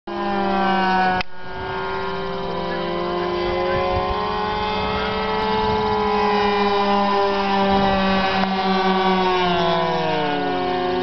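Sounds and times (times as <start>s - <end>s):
propeller aircraft engine running: 0.1s - 11.0s.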